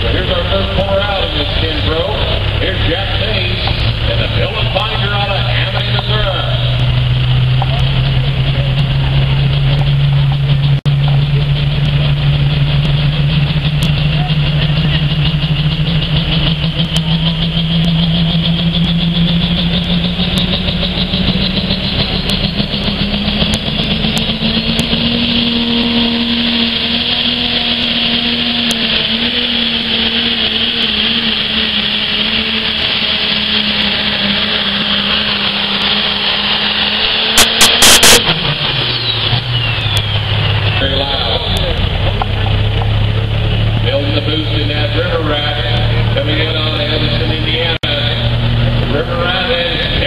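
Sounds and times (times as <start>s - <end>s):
diesel tractor engine at full throttle: 0.0s - 50.0s.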